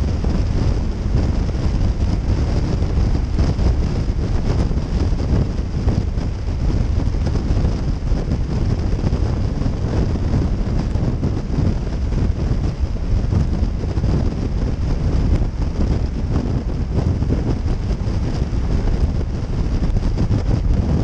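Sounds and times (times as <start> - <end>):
motorcycle engine rumble: 0.0 - 21.0
wind buffeting on microphone: 0.0 - 21.0.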